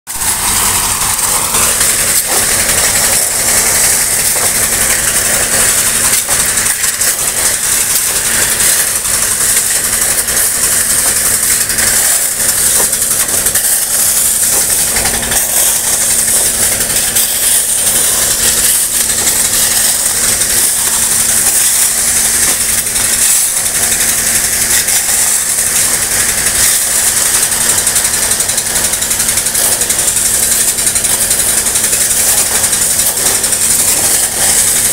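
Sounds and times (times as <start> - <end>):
loading machine engine hum: 0.1 - 34.9
gravel and water pouring: 0.2 - 34.9.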